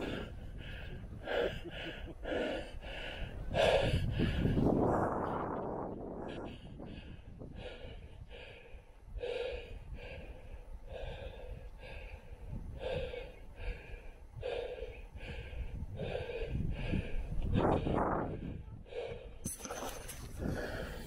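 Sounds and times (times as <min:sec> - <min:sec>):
person breathing in and out: 0:00.0 - 0:21.0.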